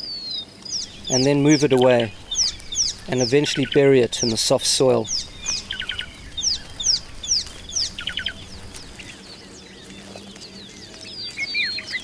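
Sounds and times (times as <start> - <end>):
birds chirping: 0.0 - 12.0
rapid repeated bird notes: 0.6 - 12.0.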